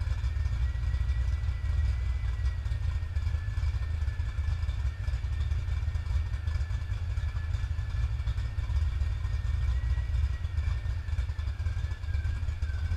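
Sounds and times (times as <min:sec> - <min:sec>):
car engine idling: 0:00.0 - 0:12.9
thin wavering whistle: 0:00.6 - 0:12.9.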